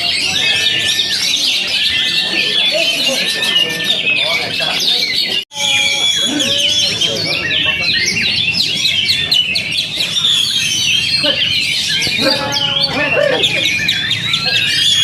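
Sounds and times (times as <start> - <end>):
songbirds whistling and chirping: 0.0 - 15.0.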